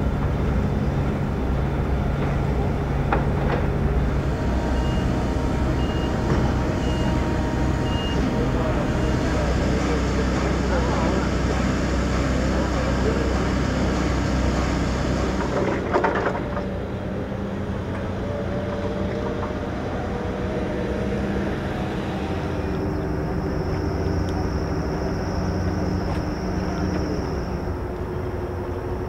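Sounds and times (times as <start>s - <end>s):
ship engine drone: 0.0s - 29.0s.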